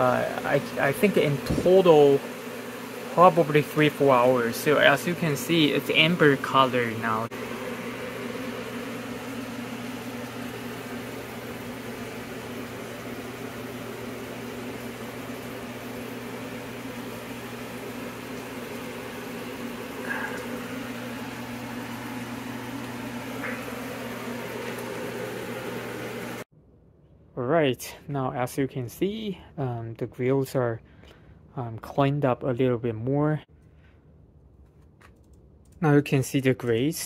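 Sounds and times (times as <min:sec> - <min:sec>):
appliance fan humming: 0:00.0 - 0:26.5, 0:27.4 - 0:37.0.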